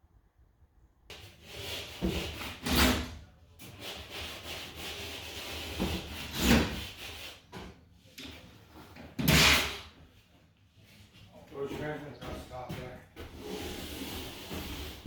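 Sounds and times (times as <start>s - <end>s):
rubbing and scraping on drywall: 1.1s - 15.0s.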